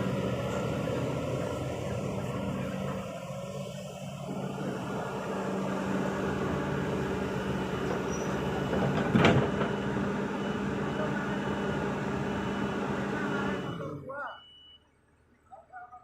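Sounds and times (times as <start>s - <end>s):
diesel machinery engine running: 0.0s - 14.1s.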